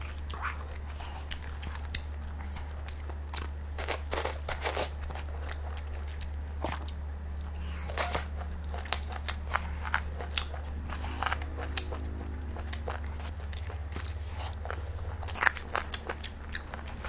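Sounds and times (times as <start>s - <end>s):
chewing and crunching: 0.0s - 17.0s
steady low hum: 0.0s - 17.0s.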